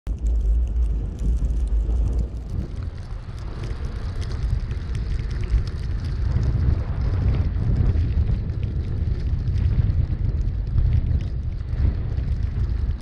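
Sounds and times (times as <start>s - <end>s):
road and wind noise: 0.1s - 13.0s.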